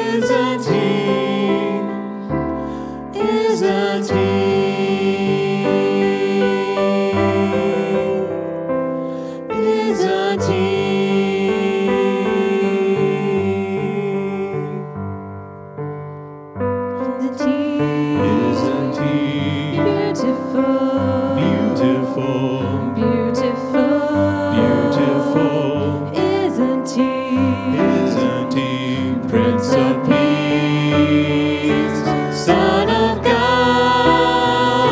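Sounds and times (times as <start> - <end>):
worship singing: 0.0 - 15.1, 17.0 - 34.9
keyboard or piano: 0.0 - 34.9.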